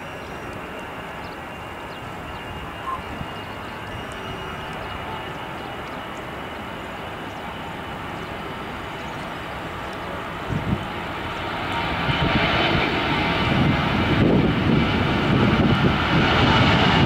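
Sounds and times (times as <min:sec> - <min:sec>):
distant jet engines rushing: 0:00.0 - 0:17.0.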